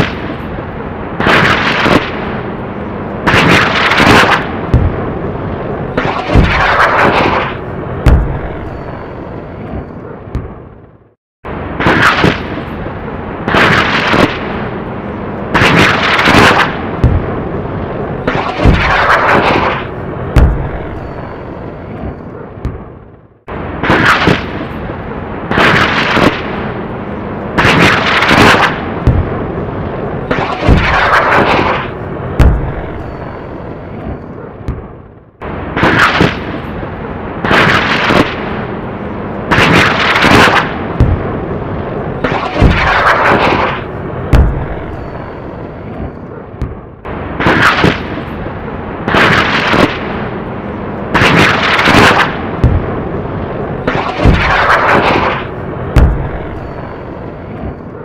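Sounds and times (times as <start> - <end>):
constant roar: 0.0 - 58.0
rockets firing and blasting: 0.0 - 58.0.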